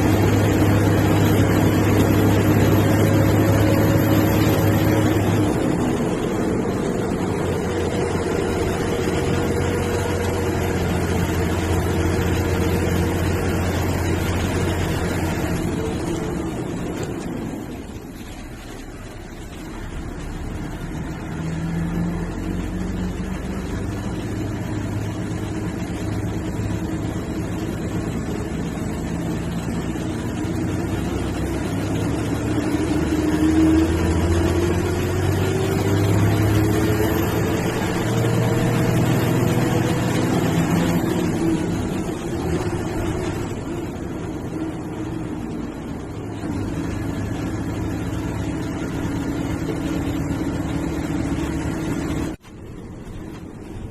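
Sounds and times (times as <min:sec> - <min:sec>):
bus diesel engine under load: 0:00.0 - 0:53.9.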